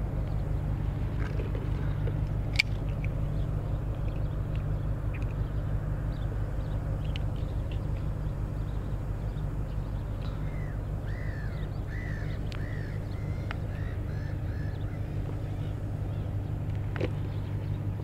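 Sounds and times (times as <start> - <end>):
steady low rumble: 0.0 - 18.0
bird calling: 3.3 - 17.9.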